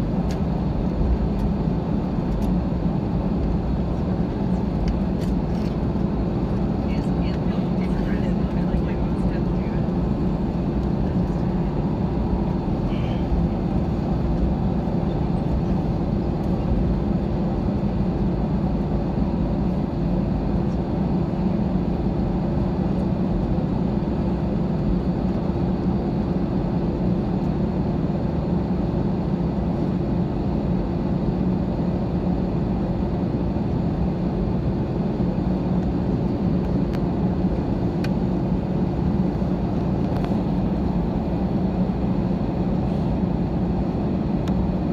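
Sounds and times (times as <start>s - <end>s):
airliner cabin engine hum: 0.0s - 44.9s
constant air rush: 0.0s - 44.9s.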